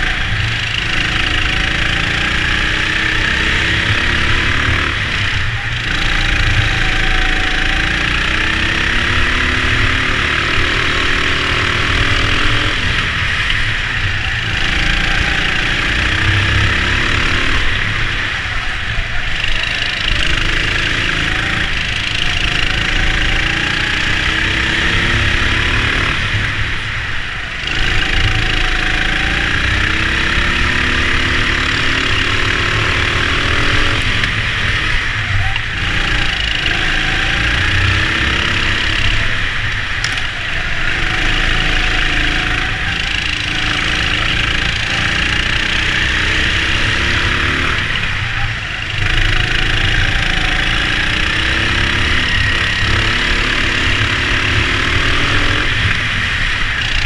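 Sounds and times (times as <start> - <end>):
go-kart engines racing: 0.0 - 57.0
steady rushing noise: 0.0 - 57.0.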